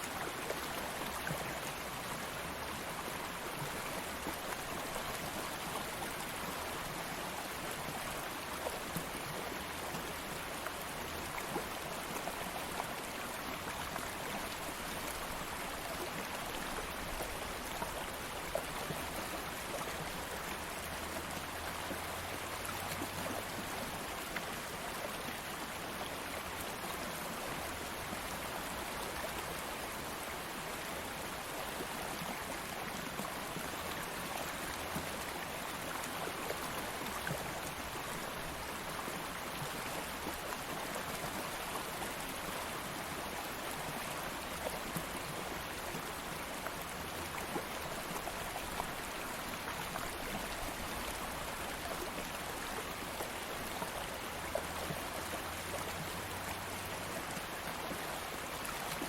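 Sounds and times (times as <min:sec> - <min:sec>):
stream of water flowing: 0:00.0 - 0:59.0.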